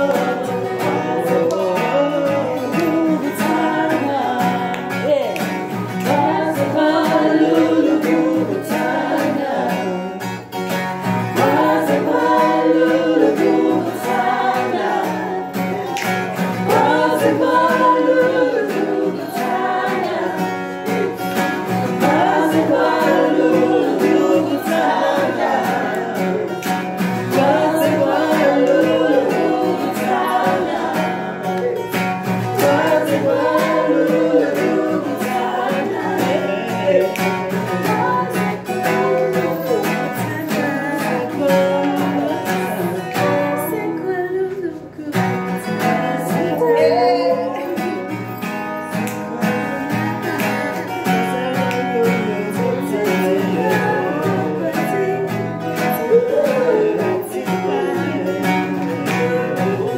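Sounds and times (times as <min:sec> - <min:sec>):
acoustic guitar: 0:00.0 - 0:59.9
men singing together: 0:00.0 - 0:59.9.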